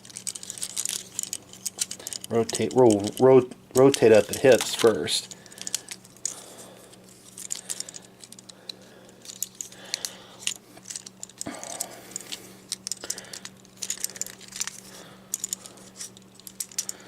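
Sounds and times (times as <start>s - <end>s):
plastic toy parts clicking: 0.0s - 6.4s, 7.2s - 17.0s.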